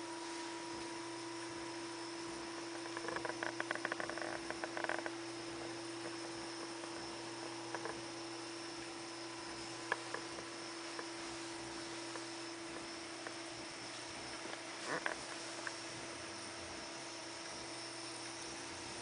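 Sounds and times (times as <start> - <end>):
background hiss: 0.0 - 19.0
electrical hum: 0.0 - 19.0.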